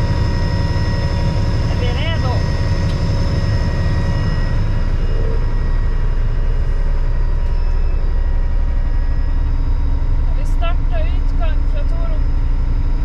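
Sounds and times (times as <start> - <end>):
boat engine running: 0.0 - 13.0
faint steady whine: 0.0 - 13.0.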